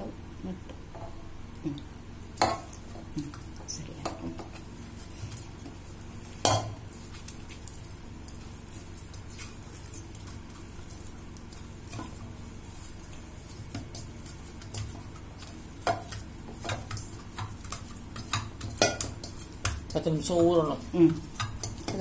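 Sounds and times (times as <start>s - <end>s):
hand kneading dough: 2.7s - 22.0s.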